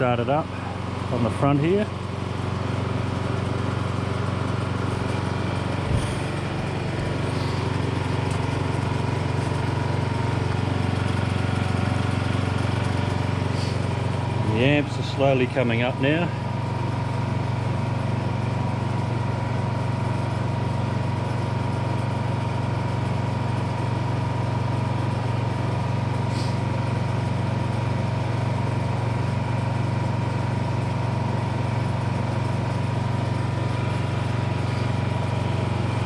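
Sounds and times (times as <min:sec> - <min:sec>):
generator engine running: 0:00.0 - 0:36.0.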